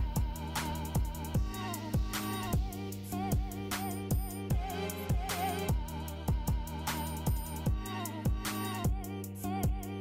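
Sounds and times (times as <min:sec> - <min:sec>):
music with drum beat: 0:00.0 - 0:10.0.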